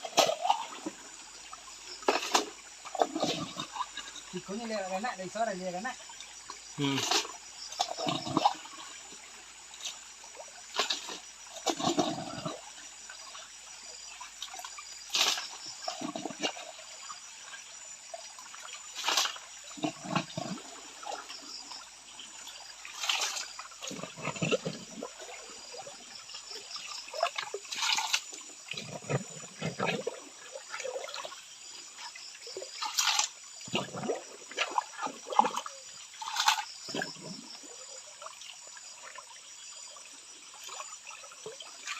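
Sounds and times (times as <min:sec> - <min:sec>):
water sloshing in a pan: 0:00.0 - 0:41.9.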